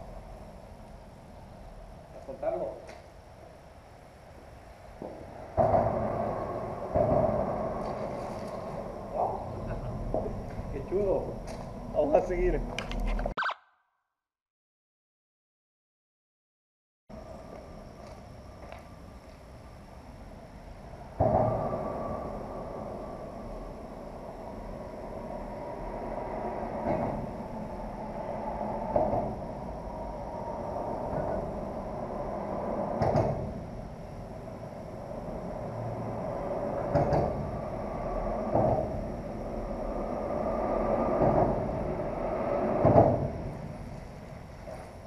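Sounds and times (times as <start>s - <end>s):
traffic rumble on bridge: 0.0s - 13.3s, 17.2s - 45.0s.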